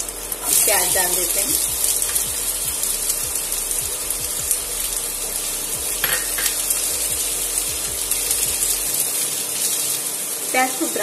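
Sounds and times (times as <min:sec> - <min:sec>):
onions sizzling in hot oil: 0:00.0 - 0:11.0
spatula stirring in pan: 0:00.0 - 0:11.0.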